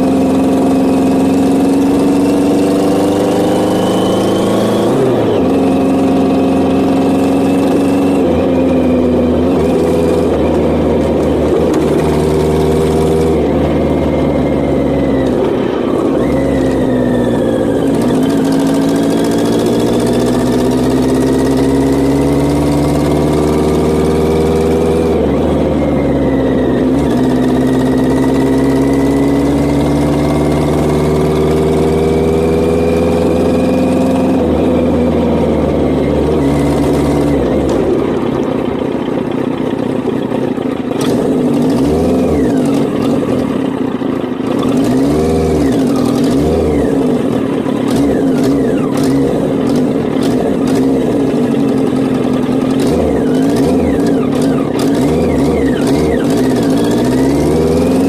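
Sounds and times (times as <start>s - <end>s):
motorcycle engine pulling: 0.0s - 58.0s.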